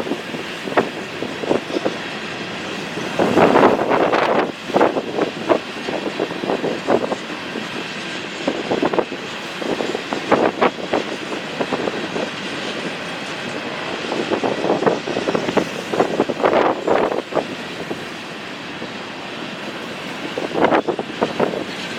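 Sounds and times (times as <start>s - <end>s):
train wheels clattering on rails: 0.0s - 21.9s.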